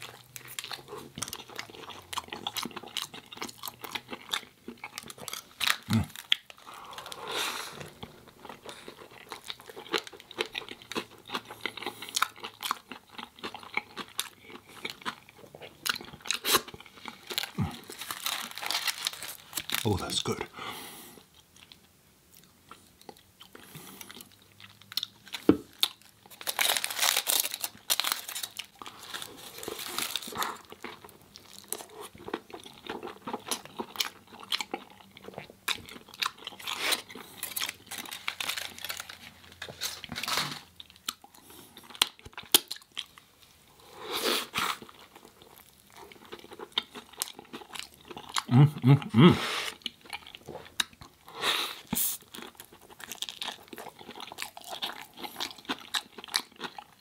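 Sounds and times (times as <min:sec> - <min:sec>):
person chewing crunchy food: 0:00.0 - 0:20.5, 0:21.1 - 0:57.0.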